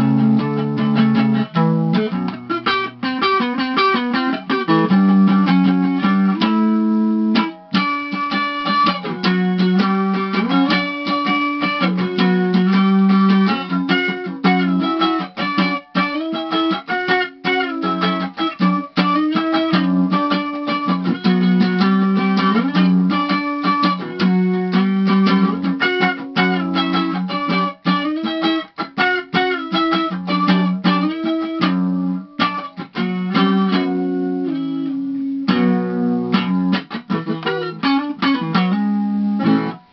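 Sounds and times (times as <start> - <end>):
fast electric guitar riffs: 0.0 - 39.9.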